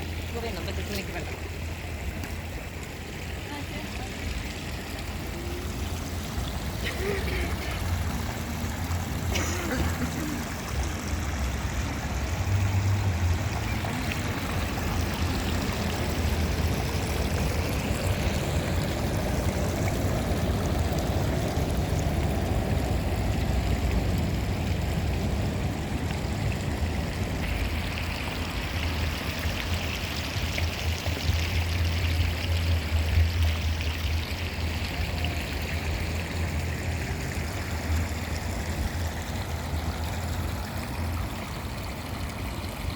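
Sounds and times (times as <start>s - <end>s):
stream water running: 0.0s - 42.9s.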